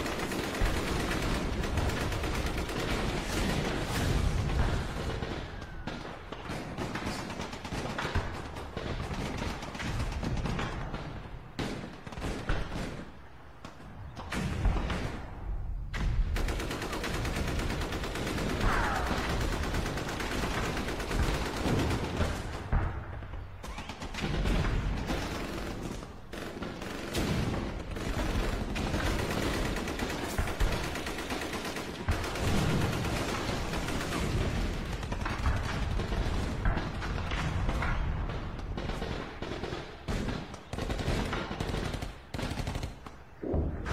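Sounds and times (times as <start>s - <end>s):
gunfire volleys: 0.0s - 43.9s.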